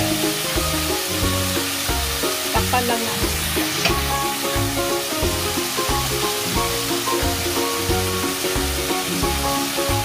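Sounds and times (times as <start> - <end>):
background music with bass: 0.0 - 10.0
chicken sizzling in hot oil: 0.0 - 10.0.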